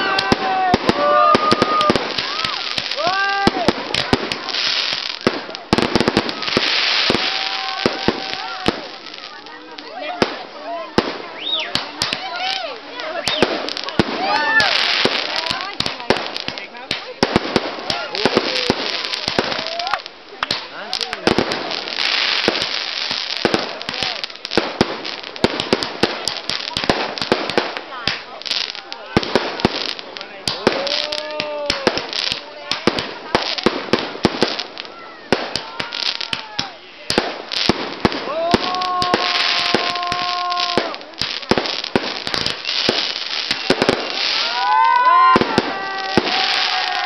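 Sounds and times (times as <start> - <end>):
fireworks bangs: 0.0 - 47.0
fireworks crackle: 0.0 - 47.0.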